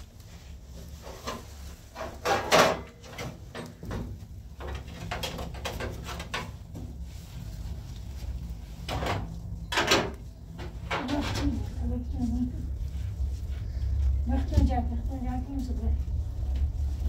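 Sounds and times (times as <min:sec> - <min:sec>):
knocks and bumps of people moving: 0:00.0 - 0:17.0
steady low hum: 0:00.0 - 0:17.0.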